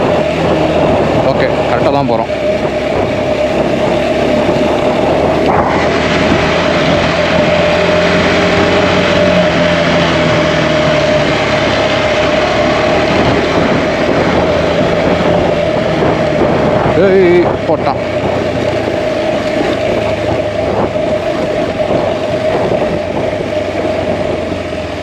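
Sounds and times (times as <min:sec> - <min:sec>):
motorcycle engine running: 0:00.0 - 0:25.0
wind and tyre noise: 0:00.0 - 0:25.0.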